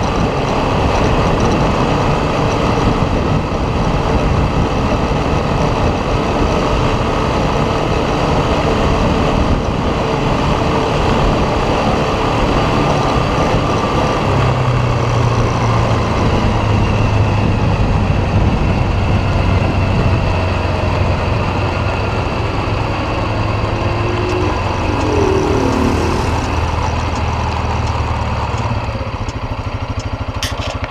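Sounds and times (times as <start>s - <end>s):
quad bike engine running: 0.0s - 30.9s.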